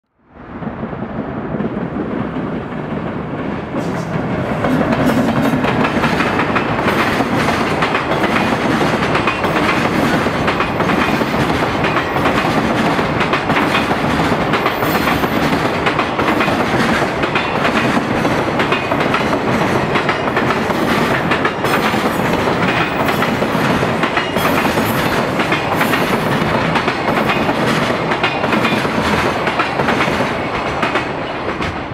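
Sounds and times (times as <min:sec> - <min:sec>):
electric locomotive passing: 0:00.2 - 0:31.9
clickety-clack of train wheels: 0:01.5 - 0:31.9.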